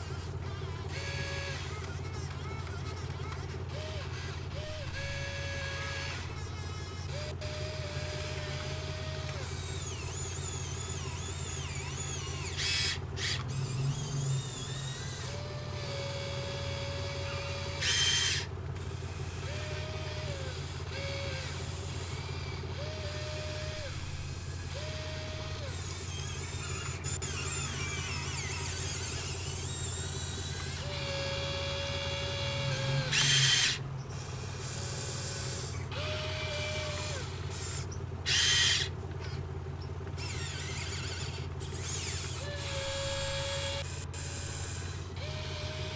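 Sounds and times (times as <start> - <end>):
hydraulic whine: 0.0 - 45.9
low motor hum: 0.0 - 45.9.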